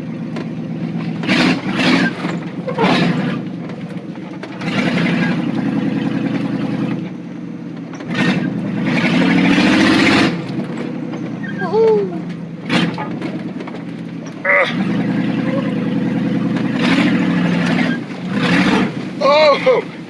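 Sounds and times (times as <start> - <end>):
pickup engine revving under load: 0.0 - 20.0.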